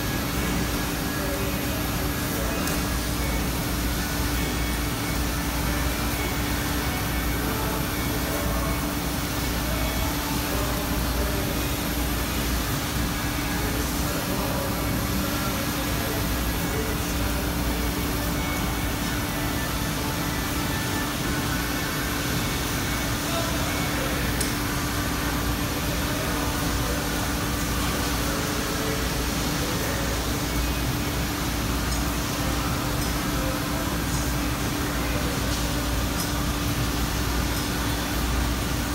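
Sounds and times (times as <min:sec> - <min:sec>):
machinery hum: 0:00.0 - 0:38.9.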